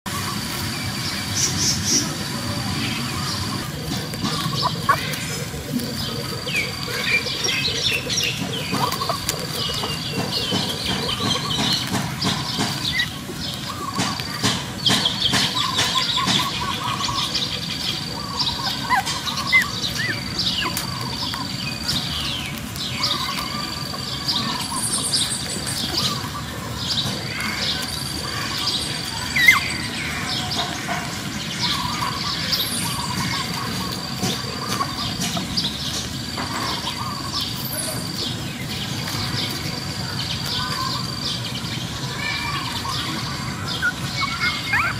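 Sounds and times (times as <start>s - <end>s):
puppies squeaking and whimpering: 2.0s - 38.3s, 42.1s - 44.9s.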